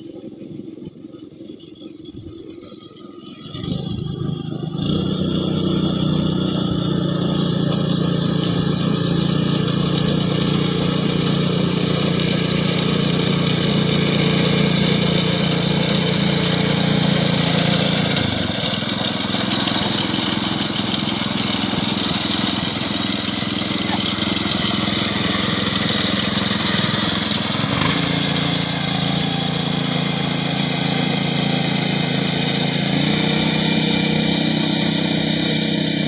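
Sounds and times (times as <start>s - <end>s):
harvester engine running: 3.5s - 36.0s.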